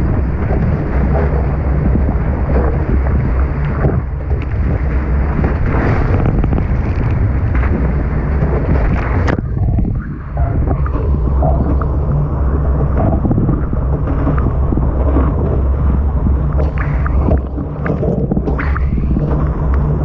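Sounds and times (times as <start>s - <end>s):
water rushing past hulls: 0.0s - 20.0s
wind buffeting microphone: 0.0s - 20.0s.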